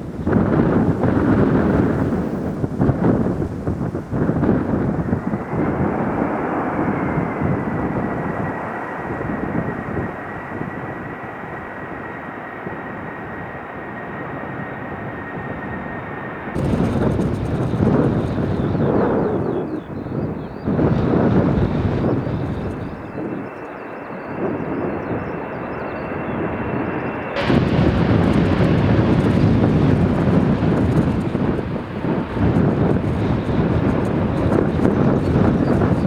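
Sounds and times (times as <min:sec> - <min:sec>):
jet engines rumbling and whining: 0:00.0 - 0:36.0
wind buffeting microphone: 0:00.0 - 0:36.0.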